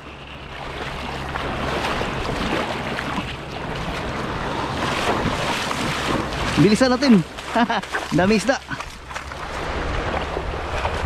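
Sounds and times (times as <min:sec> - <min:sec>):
waves washing over pebbles: 0:00.0 - 0:11.0.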